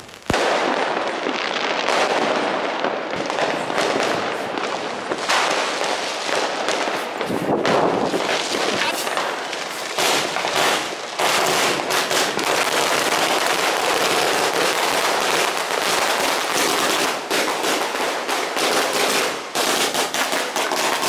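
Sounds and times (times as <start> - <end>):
firecrackers popping and banging: 0.0 - 21.0.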